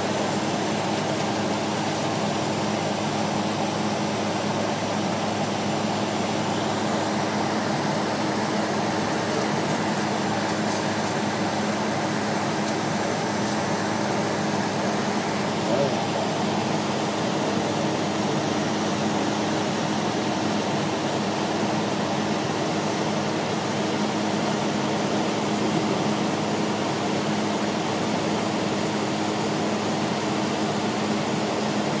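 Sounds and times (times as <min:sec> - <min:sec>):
airliner cabin engine hiss: 0:00.0 - 0:31.8.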